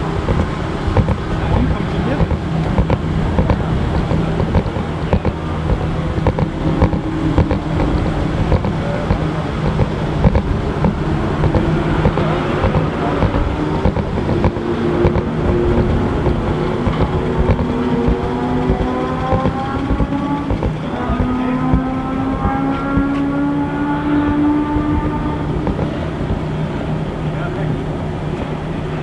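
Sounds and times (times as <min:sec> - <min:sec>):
car engine revving away: 0:00.0 - 0:28.4
car engines idling: 0:00.0 - 0:29.0.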